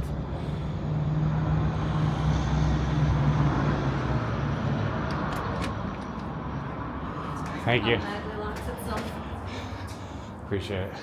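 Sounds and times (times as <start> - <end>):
vehicle engine passing: 0.0 - 10.6
traffic noise: 0.0 - 11.0.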